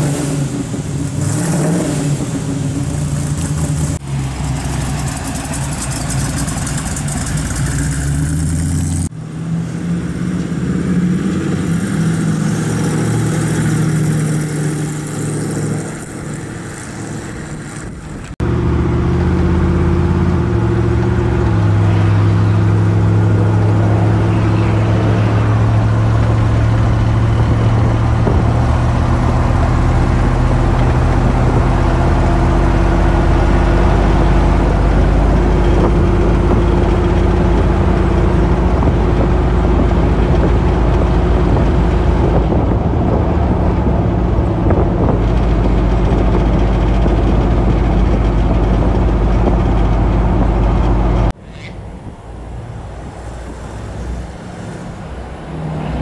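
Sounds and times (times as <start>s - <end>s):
engine running at speed: 0.0s - 51.4s
road noise: 0.0s - 56.0s.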